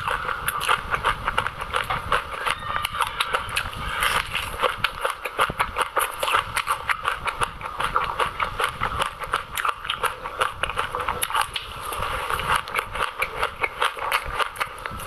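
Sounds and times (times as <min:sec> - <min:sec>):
chewing crunchy seeds: 0:00.0 - 0:15.0.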